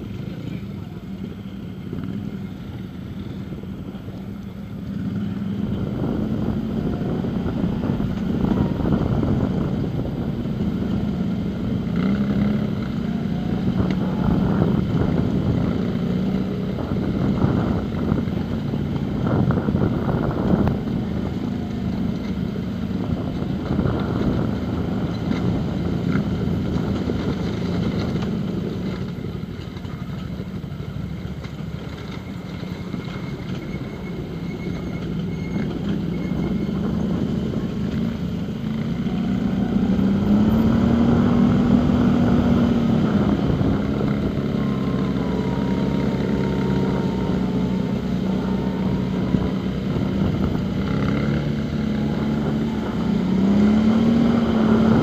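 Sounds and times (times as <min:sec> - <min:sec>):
quad bike engine running: 0:00.0 - 0:55.0
knocks and rattles over stony track: 0:03.8 - 0:55.0.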